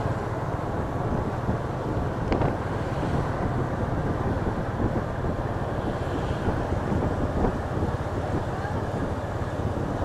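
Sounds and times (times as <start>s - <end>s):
road rumble: 0.0s - 10.0s
wind buffeting microphone: 0.0s - 10.0s.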